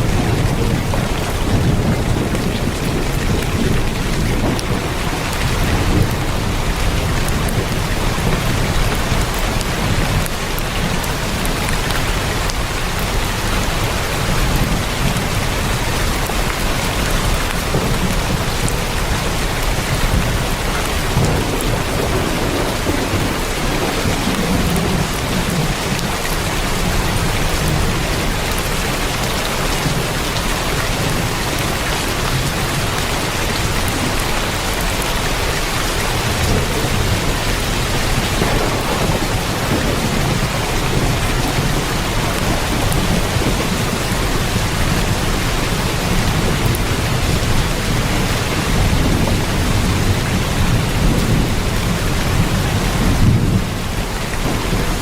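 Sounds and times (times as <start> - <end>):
heavy rain on a tin roof: 0.0 - 55.0
low thunder rumbles: 0.0 - 55.0.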